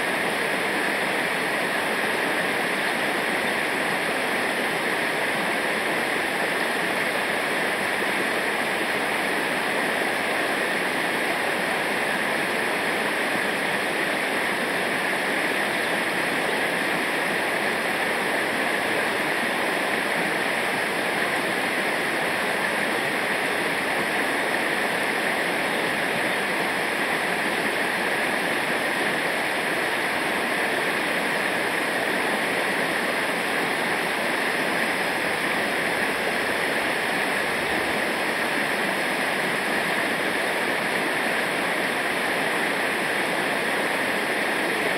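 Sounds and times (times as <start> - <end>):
river water rushing over rapids: 0.0 - 44.9.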